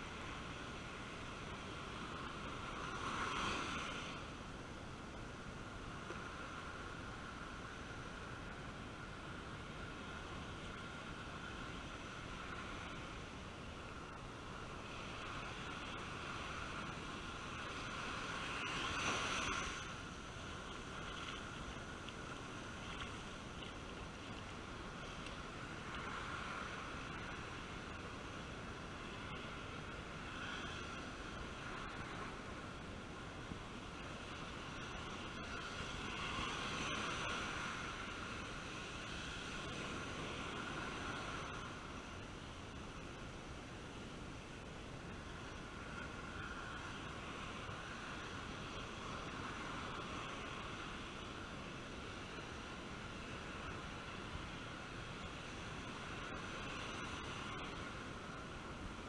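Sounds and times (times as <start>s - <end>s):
sea surf washing on sand: 0.0s - 59.0s.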